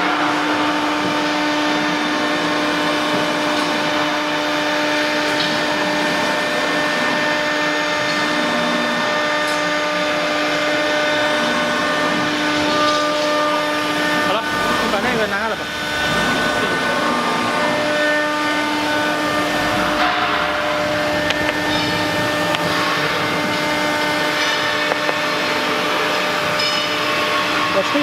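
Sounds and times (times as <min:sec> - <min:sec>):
router spindle whining: 0:01.2 - 0:28.0.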